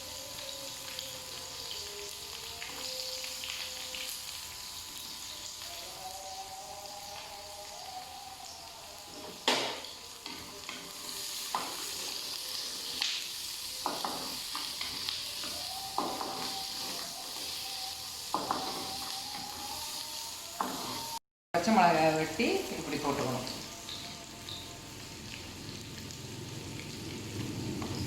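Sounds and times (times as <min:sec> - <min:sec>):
onions sizzling in oil: 0:00.0 - 0:28.0.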